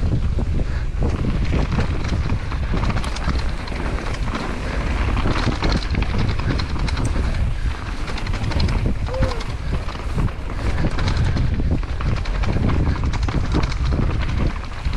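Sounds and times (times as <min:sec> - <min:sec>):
bike rattling: 0:00.0 - 0:14.9
tyres rolling on dirt: 0:00.0 - 0:14.9
wind buffeting microphone: 0:00.0 - 0:14.9.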